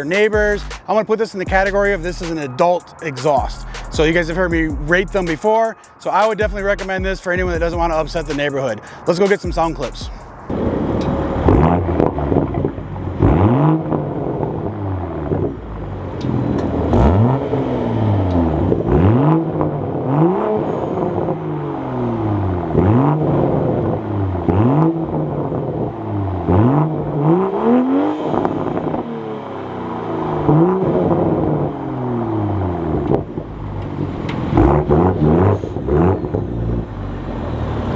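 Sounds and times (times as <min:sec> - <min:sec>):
car exhaust revving: 0:00.0 - 0:05.6, 0:06.4 - 0:37.9.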